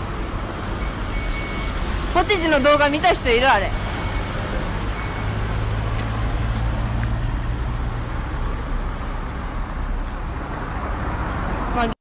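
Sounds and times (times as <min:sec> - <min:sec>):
large vehicle engine rumble: 0:00.0 - 0:12.0
road traffic: 0:00.0 - 0:12.0.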